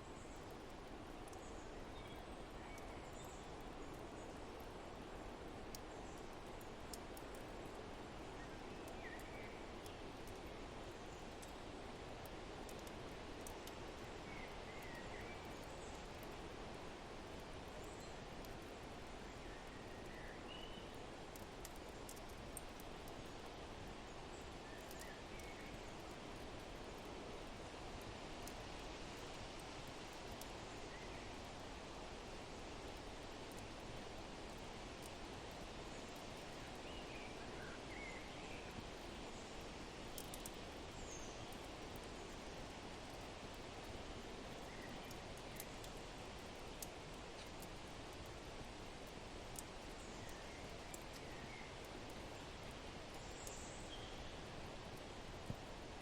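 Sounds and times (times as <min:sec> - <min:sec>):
steady wind: 0:00.0 - 0:56.0
wood fire crackling: 0:00.3 - 0:20.2, 0:20.8 - 0:31.7, 0:32.5 - 0:36.8, 0:38.7 - 0:56.0.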